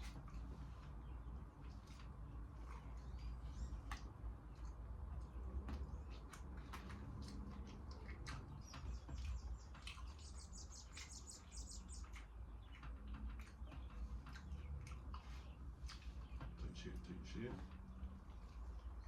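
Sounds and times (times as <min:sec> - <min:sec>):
bird chirping: 0:00.0 - 0:19.0
chewing crispy food: 0:00.0 - 0:19.0.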